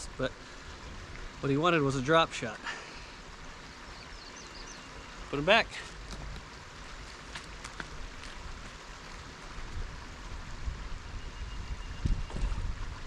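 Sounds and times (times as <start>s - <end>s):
shallow river water running: 0.0s - 13.0s.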